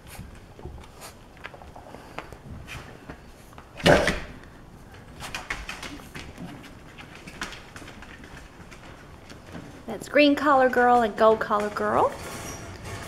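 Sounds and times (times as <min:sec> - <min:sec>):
puppies scuffling on blankets: 0:00.0 - 0:03.8, 0:04.7 - 0:12.9.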